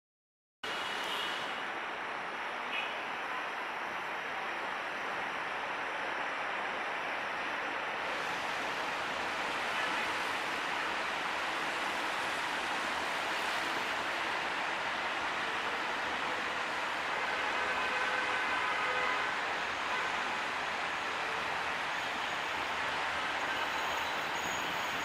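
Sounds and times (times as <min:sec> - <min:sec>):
rushing outdoor noise: 0:00.6 - 0:25.0.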